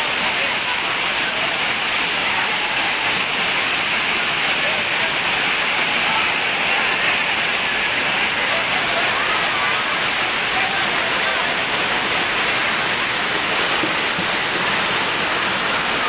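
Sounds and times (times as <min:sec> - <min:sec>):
crowd chatter: 0:00.0 - 0:16.0
waterfall rushing: 0:00.0 - 0:16.0.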